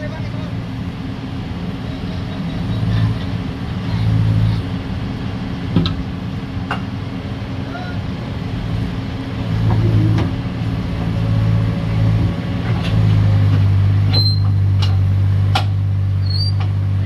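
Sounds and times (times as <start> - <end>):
excavator diesel engine under load: 0.0 - 17.0.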